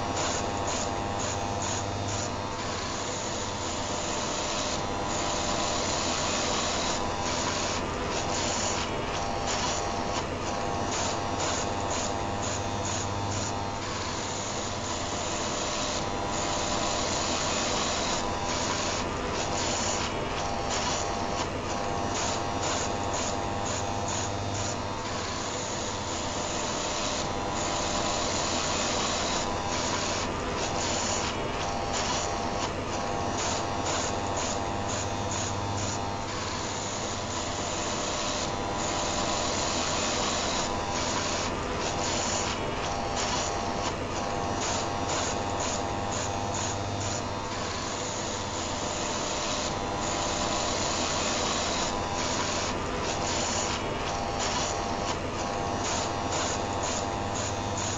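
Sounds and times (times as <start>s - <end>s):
electric shaver running: 0.0s - 57.9s.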